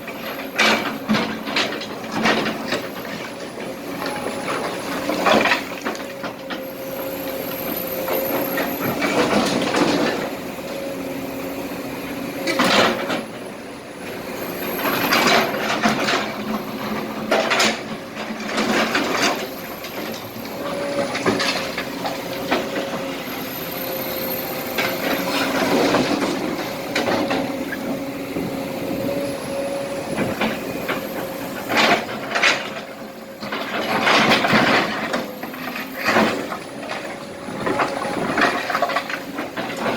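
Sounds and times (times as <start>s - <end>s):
excavator running: 0.0s - 39.9s.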